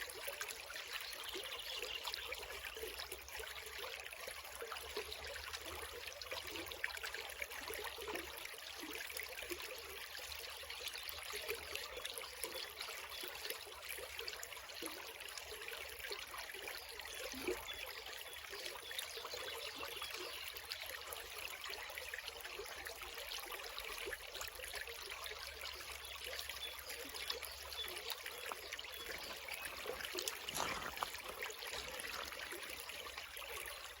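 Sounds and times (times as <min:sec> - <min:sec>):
water trickling over stones: 0:00.0 - 0:34.0.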